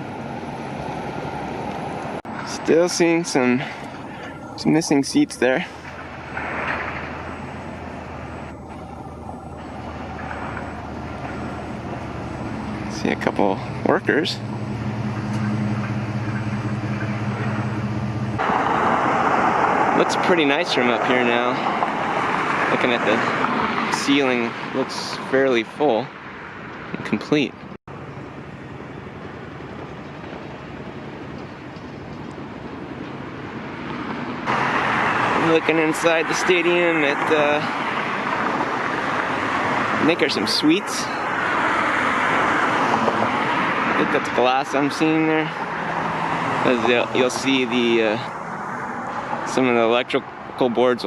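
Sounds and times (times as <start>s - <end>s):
traffic road noise rumble: 0.0s - 51.0s.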